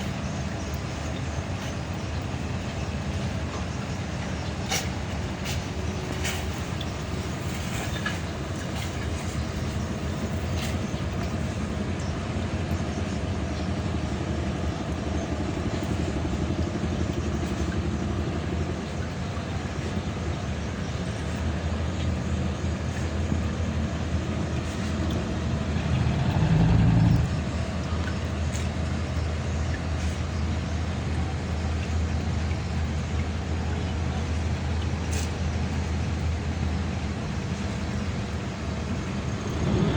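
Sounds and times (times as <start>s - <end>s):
boat diesel engine humming: 0.0s - 39.9s.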